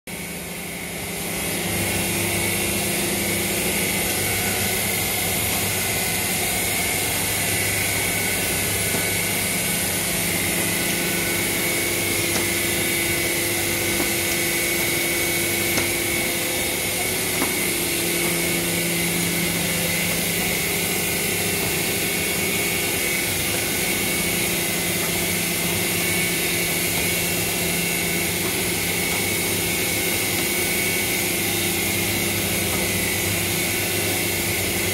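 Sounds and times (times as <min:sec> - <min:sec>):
machine humming: 0:00.1 - 0:34.9.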